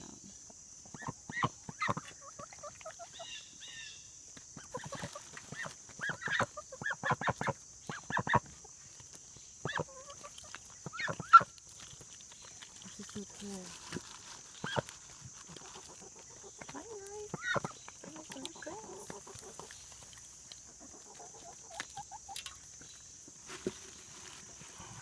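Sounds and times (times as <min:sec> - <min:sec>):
crickets chirring: 0:00.0 - 0:25.0
chickens calling: 0:00.5 - 0:11.6, 0:14.4 - 0:24.5.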